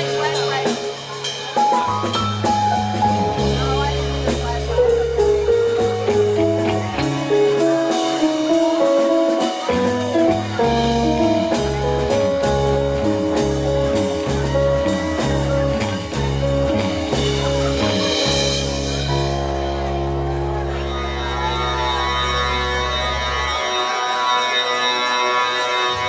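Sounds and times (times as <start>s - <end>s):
drum kit: 0.0s - 23.8s
electric guitars: 0.0s - 26.0s
pulsing bass line: 2.0s - 24.0s.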